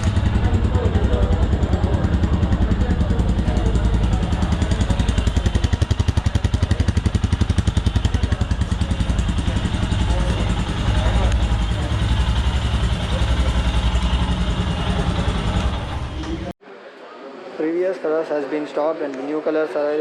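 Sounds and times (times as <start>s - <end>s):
motorcycle engine idling: 0.0s - 16.5s.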